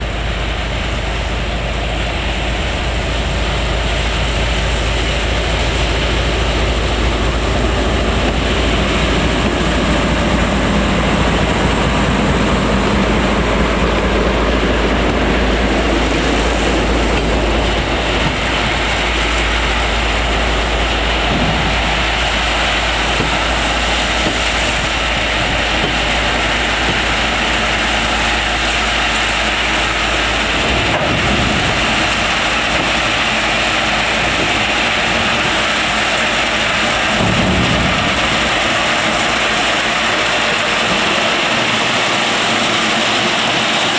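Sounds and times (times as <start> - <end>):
train engine and wagon noise: 0.0 - 43.9.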